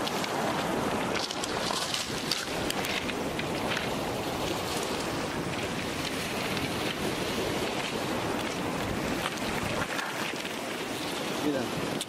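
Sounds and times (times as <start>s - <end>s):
surf washing on pebble beach: 0.0s - 12.0s
wind buffeting microphone: 0.0s - 12.0s.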